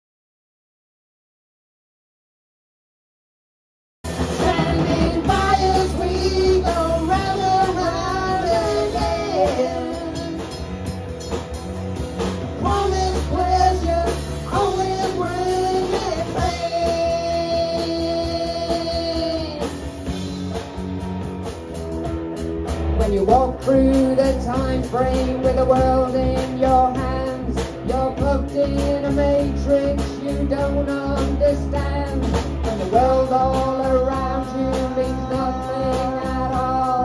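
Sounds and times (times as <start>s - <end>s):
live rock band playing: 4.0s - 37.0s.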